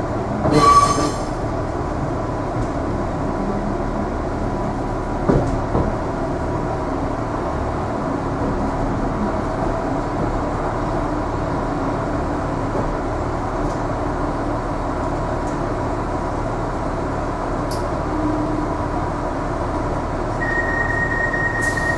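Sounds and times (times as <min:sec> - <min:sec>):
train rumbling on rails: 0:00.0 - 0:21.9.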